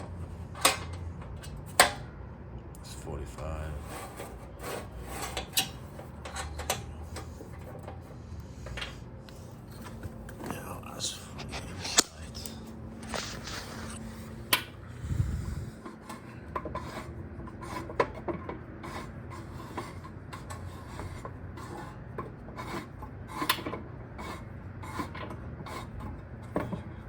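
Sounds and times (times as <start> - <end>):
metal rubbing and scraping: 3.4 - 26.7.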